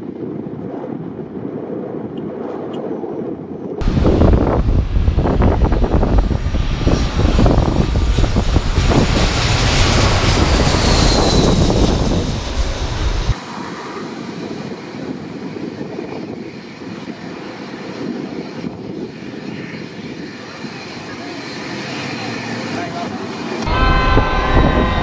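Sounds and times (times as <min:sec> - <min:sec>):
jet airliner passing overhead: 0:00.0 - 0:25.0
distant jet engine: 0:03.7 - 0:25.0.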